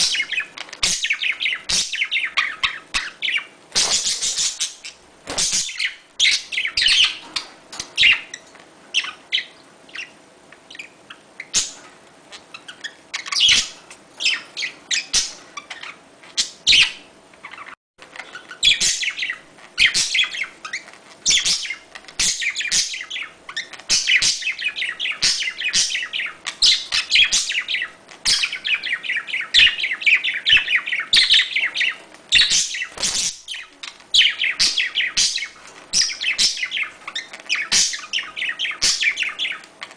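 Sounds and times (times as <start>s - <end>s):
budgerigars chattering: 0.0s - 8.4s, 9.0s - 39.9s.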